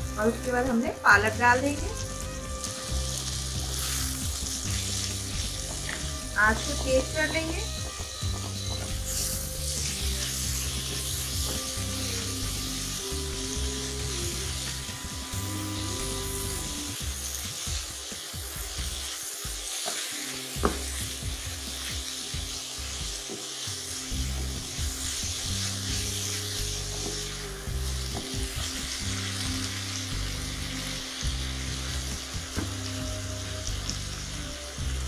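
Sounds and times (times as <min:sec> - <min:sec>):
soft background music: 0:00.0 - 0:35.0
spinach sizzling in a pan: 0:00.0 - 0:35.0.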